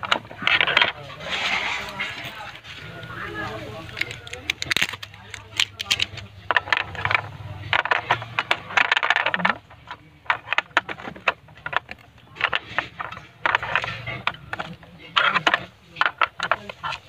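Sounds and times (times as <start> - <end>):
metal tools clinking and rattling: 0.0 - 17.0.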